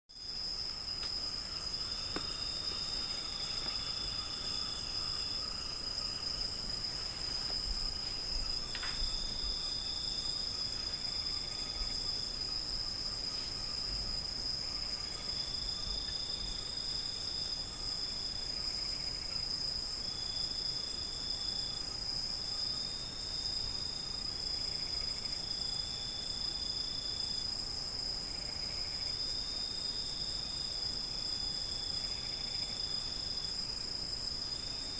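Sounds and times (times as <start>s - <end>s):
crickets chirring: 0.1s - 34.9s.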